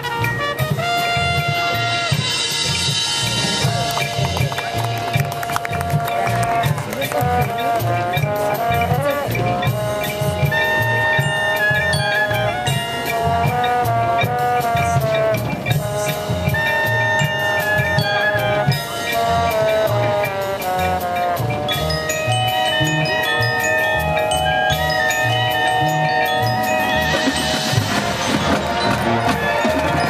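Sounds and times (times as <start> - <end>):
marching band brass chords: 0.0 - 30.0
steady drum beat: 0.0 - 30.0.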